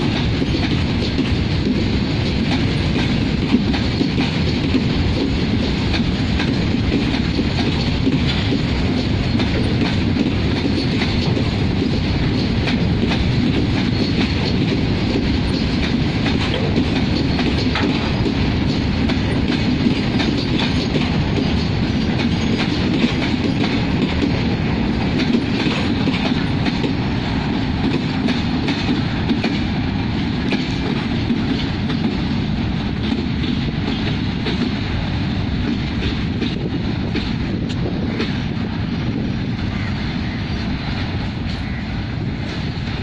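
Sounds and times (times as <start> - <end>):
freight train rumble: 0.0 - 43.0
wheels clacking over rail joints: 0.0 - 43.0.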